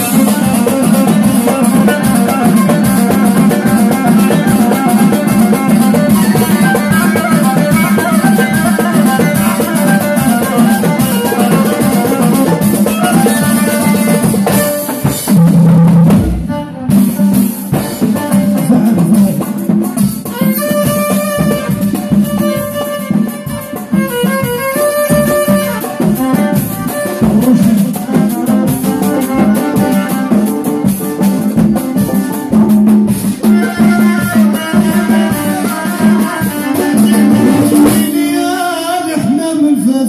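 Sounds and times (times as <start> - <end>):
drum kit: 0.0 - 39.4
congas: 0.0 - 40.0.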